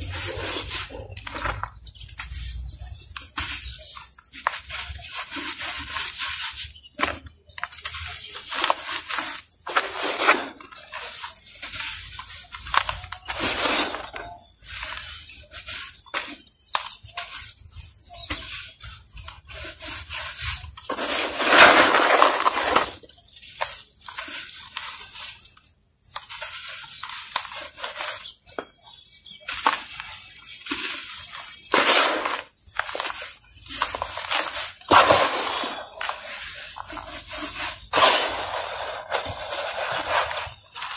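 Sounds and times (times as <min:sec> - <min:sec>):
hands sifting dry powder: 0:00.0 - 0:40.9.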